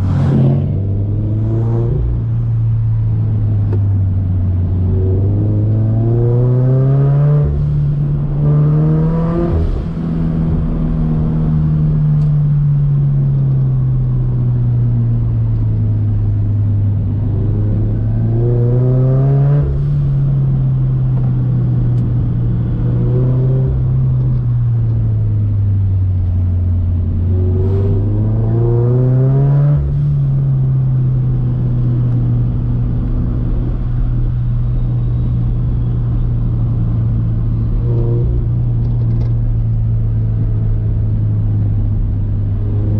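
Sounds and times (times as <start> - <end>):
car engine revving: 0.0 - 13.0, 16.9 - 42.9.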